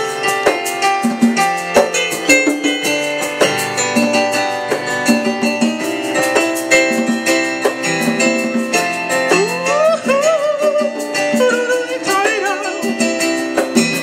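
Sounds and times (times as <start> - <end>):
congas: 0.0 - 14.0
synthesizer chords and melody: 0.0 - 14.0.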